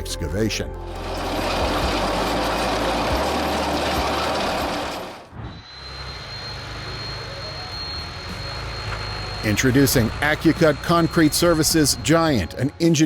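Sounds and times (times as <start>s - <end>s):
trencher cutting chain grinding ground: 0.9s - 12.5s
machine noise with high whine: 0.9s - 13.0s.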